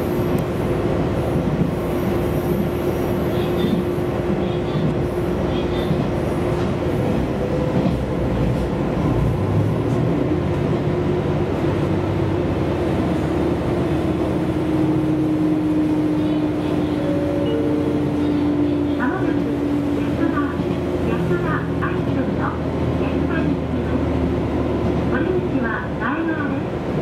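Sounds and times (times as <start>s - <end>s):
railcar engine and wheels rumbling: 0.0s - 27.0s
railcar whine: 0.0s - 27.0s.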